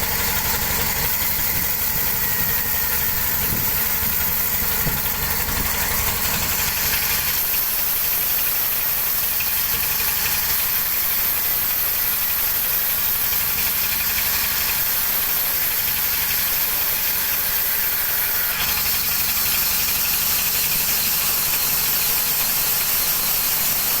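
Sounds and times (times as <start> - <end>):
sawmill machinery rumbling and hissing: 0.0 - 24.0.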